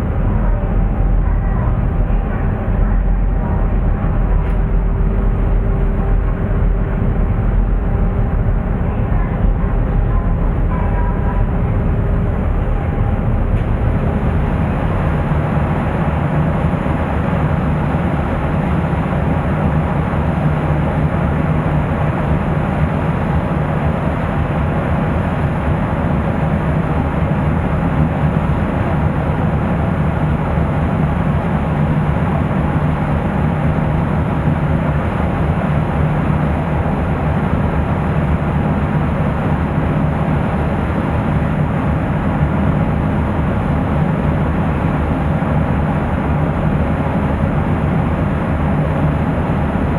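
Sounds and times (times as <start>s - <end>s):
ship engine low drone: 0.0s - 49.9s.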